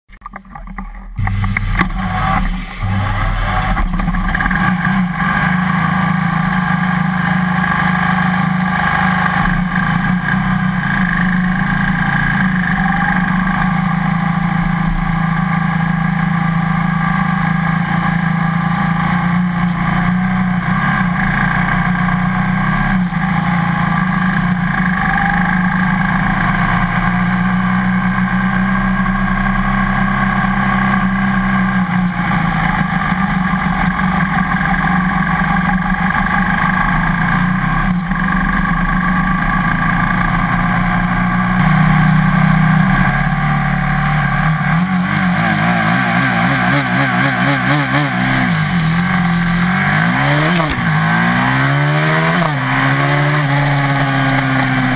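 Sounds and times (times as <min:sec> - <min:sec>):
motorcycle engine running steadily: 0:00.1 - 0:54.9.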